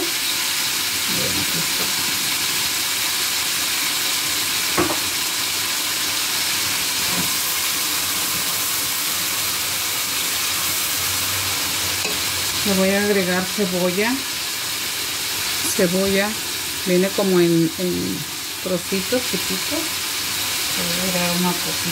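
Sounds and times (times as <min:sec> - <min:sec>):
vegetables sizzling in oil: 0:00.0 - 0:21.9.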